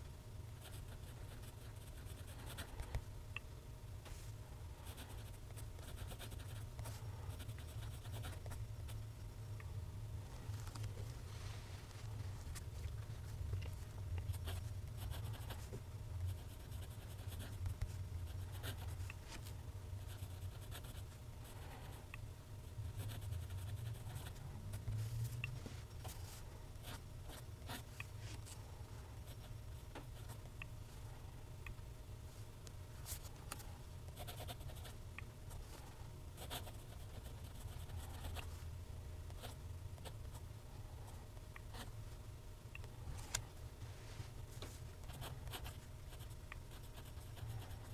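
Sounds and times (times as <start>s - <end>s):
low room rumble: 0.0s - 47.9s.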